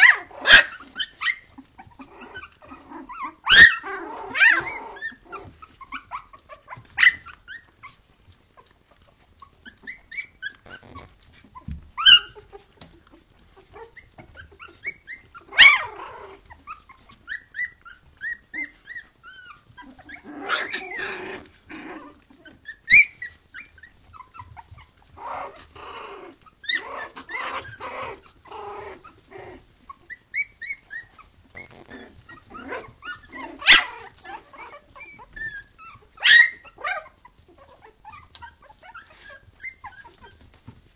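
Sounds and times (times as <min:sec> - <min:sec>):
puppies squeaking and yipping: 0:00.0 - 0:40.9
puppies tussling: 0:00.0 - 0:40.9
puppies yelping: 0:00.0 - 0:40.9.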